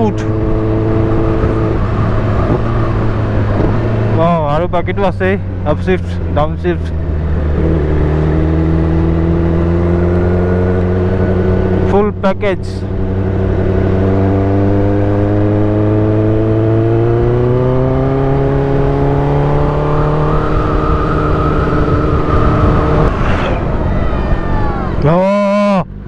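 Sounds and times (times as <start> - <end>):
motorcycle engine revving up: 0.0 - 25.1.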